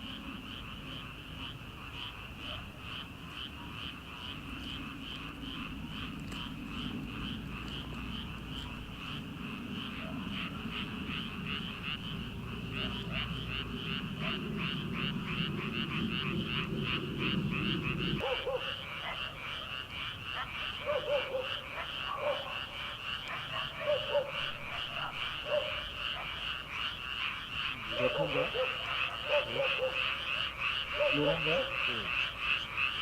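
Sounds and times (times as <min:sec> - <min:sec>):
frogs croaking: 0:00.0 - 0:33.0
frogs trilling: 0:00.0 - 0:33.0.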